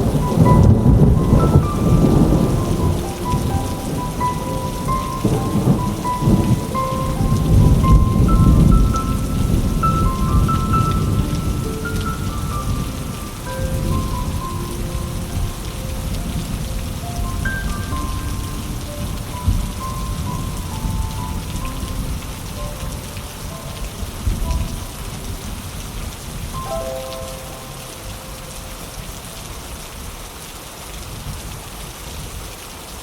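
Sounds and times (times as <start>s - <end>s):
thunder rumble: 0.0s - 26.5s
steady rain falling: 0.0s - 33.0s.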